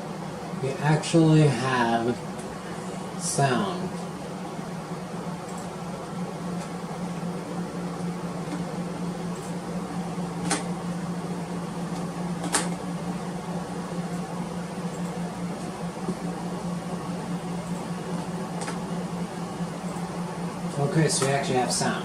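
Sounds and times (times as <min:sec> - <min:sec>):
computer fan hum: 0:00.0 - 0:22.0.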